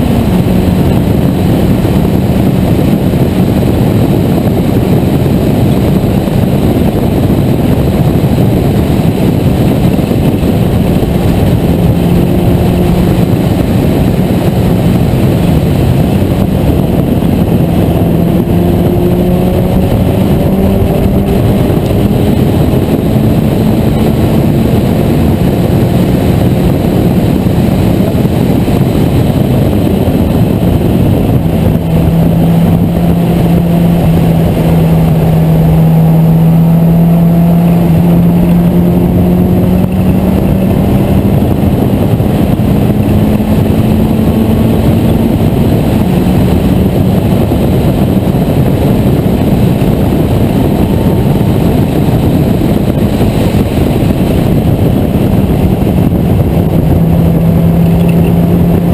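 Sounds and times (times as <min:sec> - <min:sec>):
race car engine: 0:00.0 - 0:58.9
wind rushing: 0:00.0 - 0:58.9.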